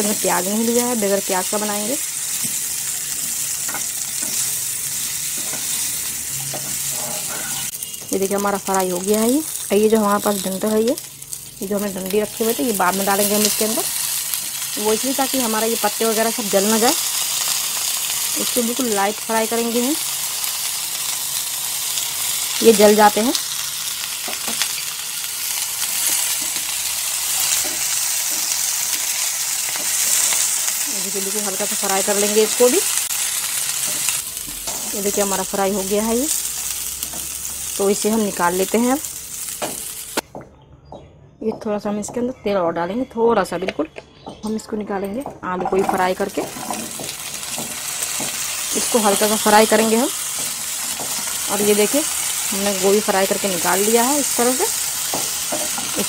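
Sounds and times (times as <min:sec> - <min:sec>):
vegetables sizzling in hot oil: 0:00.0 - 0:40.2, 0:45.7 - 0:56.0.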